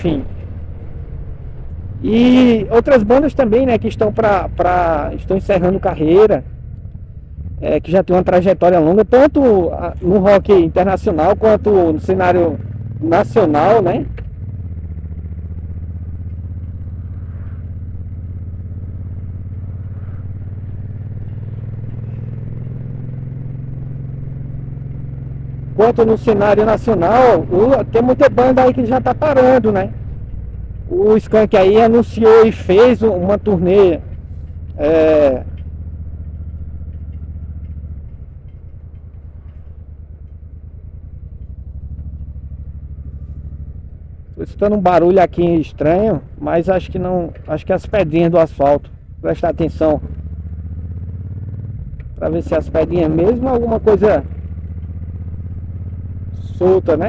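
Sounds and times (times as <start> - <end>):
motorcycle engine cruising: 0.0 - 57.0
road and wind noise: 0.0 - 57.0.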